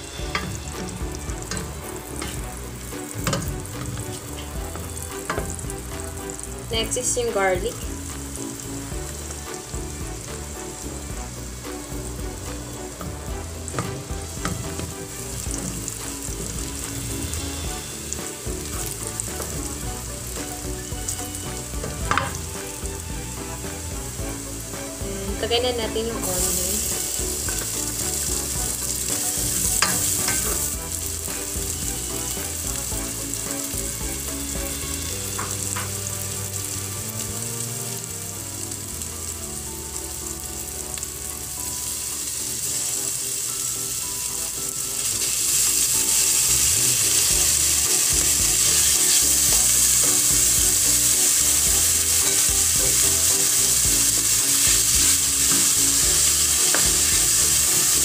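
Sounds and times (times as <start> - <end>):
onion sizzling in a frying pan: 0.0 - 58.0.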